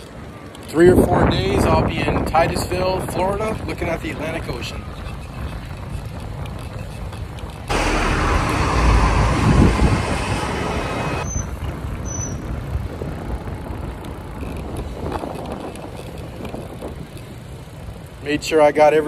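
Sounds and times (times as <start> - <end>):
bicycle tyre rumble: 0.0 - 19.0
wind on microphone: 0.8 - 17.7.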